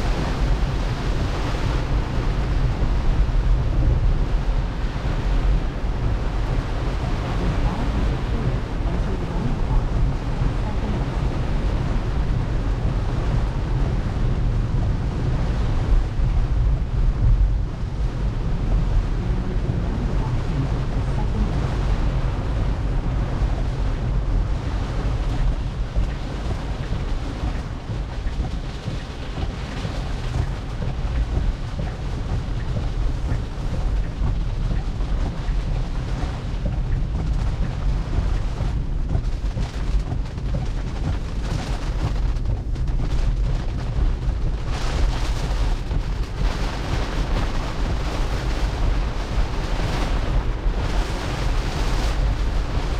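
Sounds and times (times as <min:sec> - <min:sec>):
heavy rain on a car: 0:00.0 - 0:52.9
wet road noise: 0:00.0 - 0:52.9.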